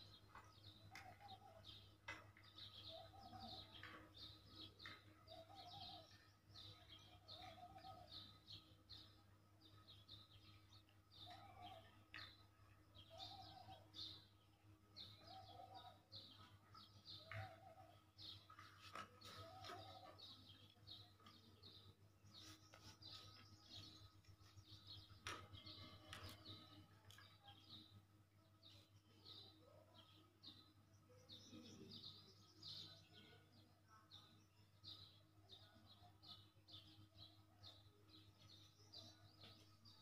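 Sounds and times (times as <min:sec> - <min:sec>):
faint bird chirping: 0:00.0 - 0:40.0.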